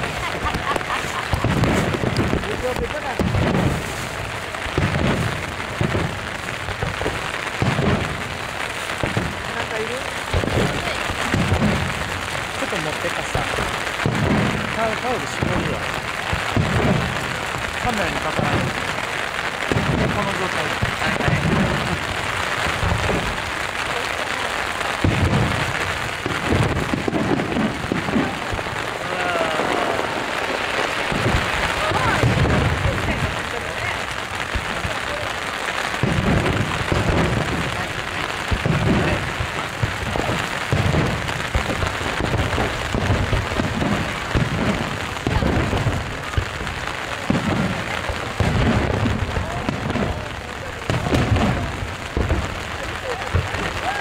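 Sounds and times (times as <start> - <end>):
fireworks booming: 0.0 - 54.0
heavy rain: 0.0 - 54.0.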